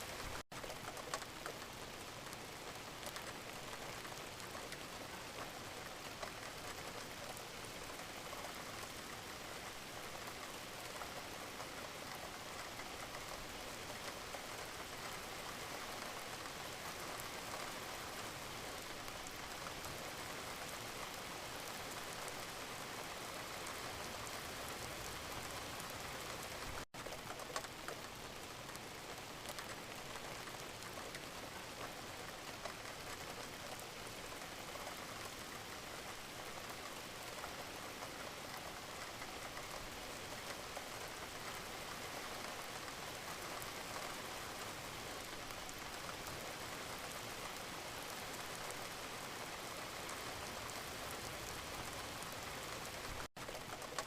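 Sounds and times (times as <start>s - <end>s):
raindrops pattering on surface: 0.0s - 54.0s
steady gentle rain: 0.0s - 54.0s.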